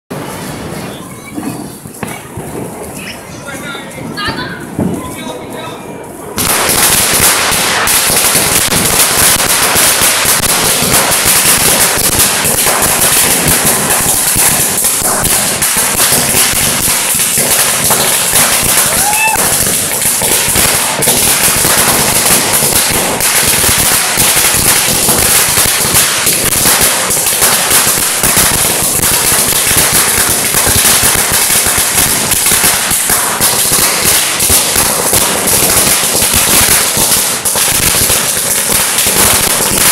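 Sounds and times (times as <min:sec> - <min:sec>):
firecrackers banging rapidly: 0:00.1 - 0:39.9.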